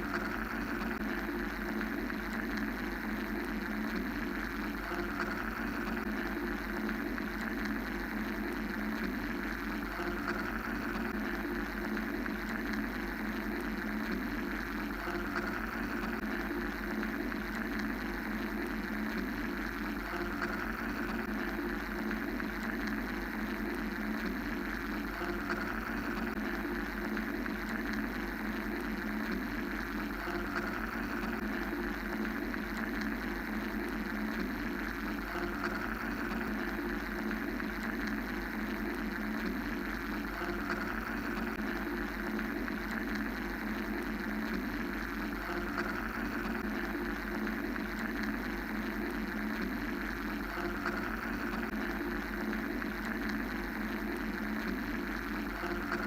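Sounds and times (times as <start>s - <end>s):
mechanical white noise hum: 0.0s - 56.0s.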